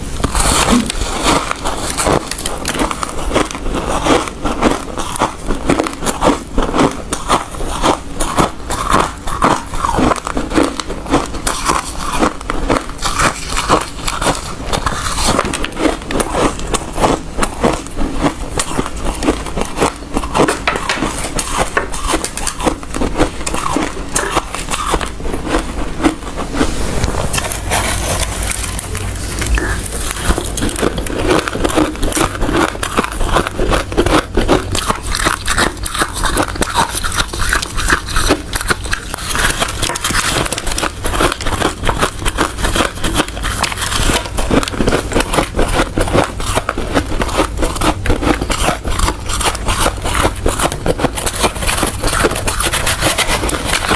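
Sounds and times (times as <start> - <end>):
chewing ice crunching: 0.1 - 53.9.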